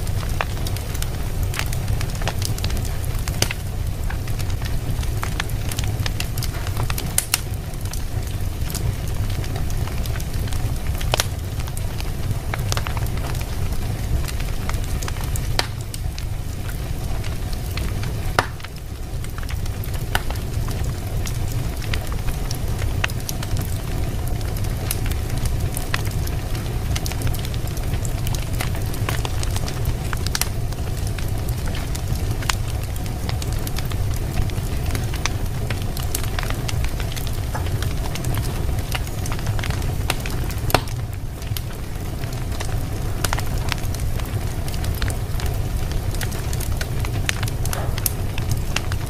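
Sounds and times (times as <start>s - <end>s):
fire crackling and popping: 0.0s - 49.0s
fire low rumble: 0.0s - 49.0s.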